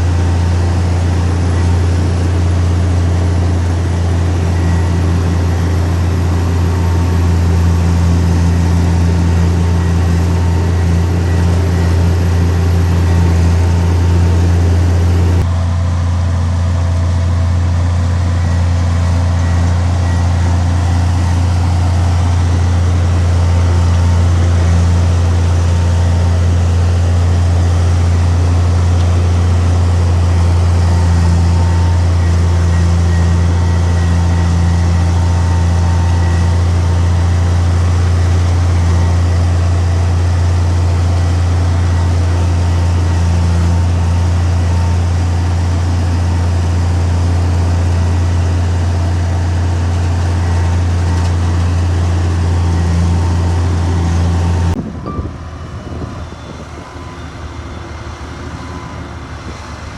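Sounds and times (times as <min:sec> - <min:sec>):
heavy diesel engine humming: 0:00.0 - 0:59.9.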